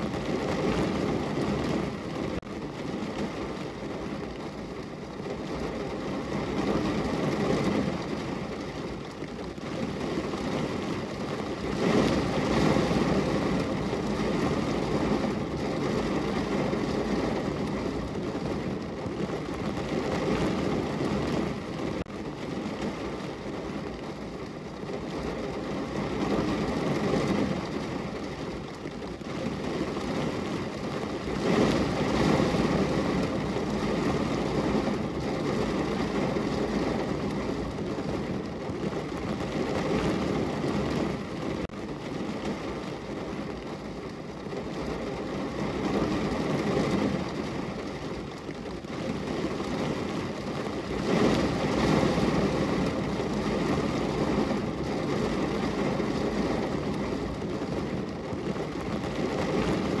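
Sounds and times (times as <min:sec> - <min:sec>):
rain on a window: 0:00.0 - 1:00.0.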